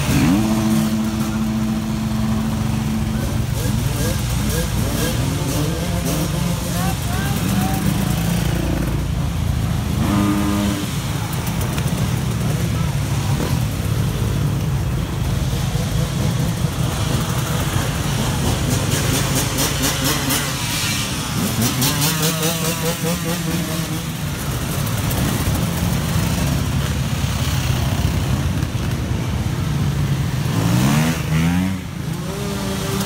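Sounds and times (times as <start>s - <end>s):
dirt bike engines at low revs: 0.0s - 33.0s.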